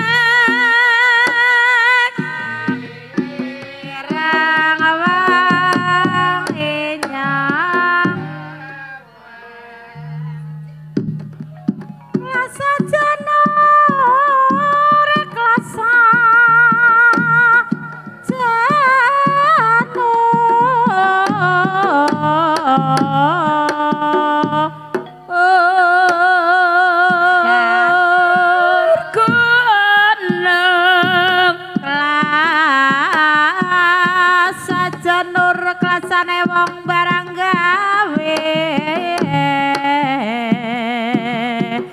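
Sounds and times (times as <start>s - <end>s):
gamelan percussion: 0.0s - 9.2s, 9.9s - 41.9s.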